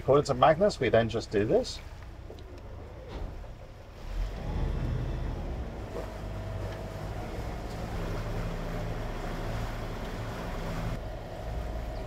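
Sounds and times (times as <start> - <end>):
water around hull: 0.0 - 12.0
diesel boat engine revving: 1.5 - 12.0.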